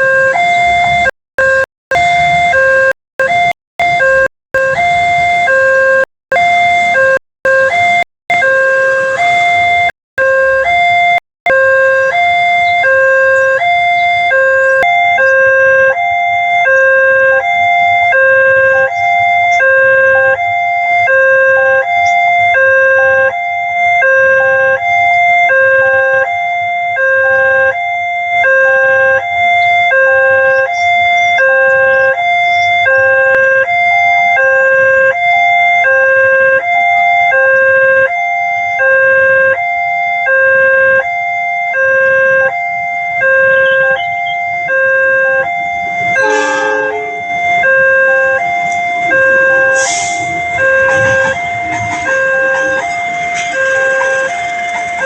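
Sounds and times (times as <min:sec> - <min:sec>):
level-crossing two-tone alarm: 0:00.0 - 0:55.0.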